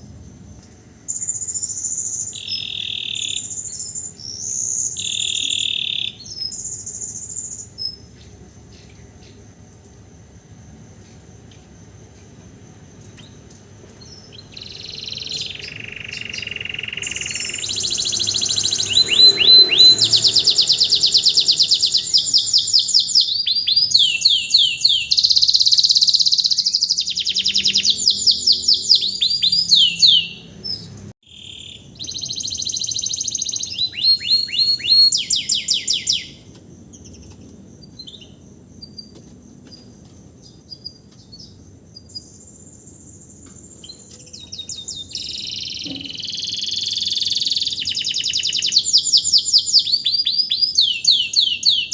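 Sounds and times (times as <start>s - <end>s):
canary singing trills: 1.1s - 9.4s, 13.0s - 51.9s.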